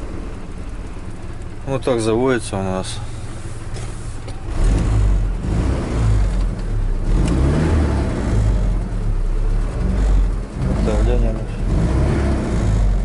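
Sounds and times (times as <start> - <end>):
van engine starting and running: 0.0 - 13.0.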